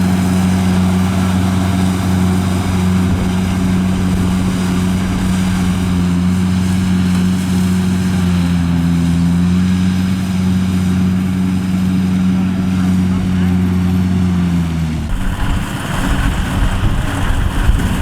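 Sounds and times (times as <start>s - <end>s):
harvesting machine engine running: 0.0s - 18.0s.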